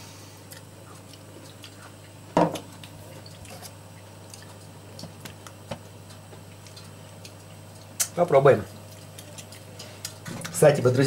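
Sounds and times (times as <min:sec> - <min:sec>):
person chewing: 0:00.4 - 0:10.2.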